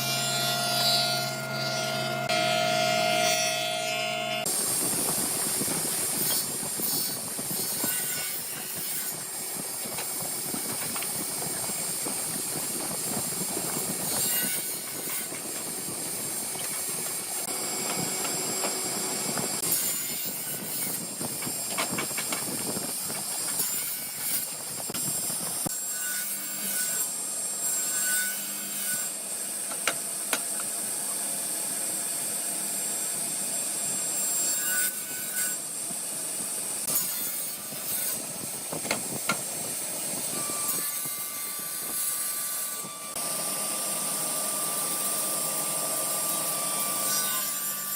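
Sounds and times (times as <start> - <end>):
power woodworking machine rasping: 0.0 - 47.9.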